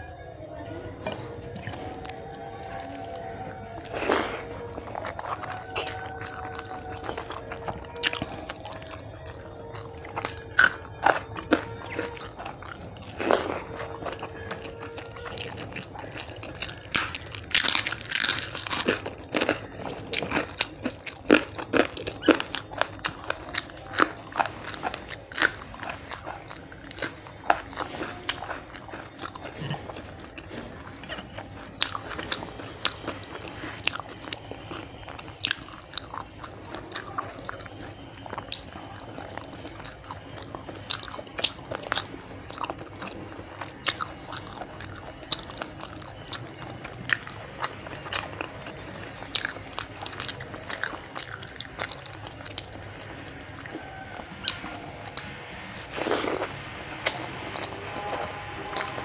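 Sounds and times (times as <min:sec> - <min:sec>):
person chewing crunchy food: 0:01.0 - 0:59.0.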